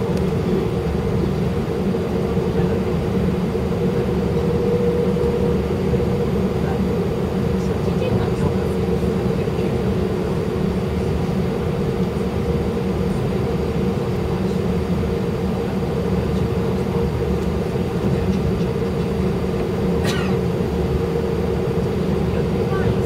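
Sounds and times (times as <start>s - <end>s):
jet engines rumbling: 0.0s - 23.0s
steady cabin hum: 0.0s - 23.0s.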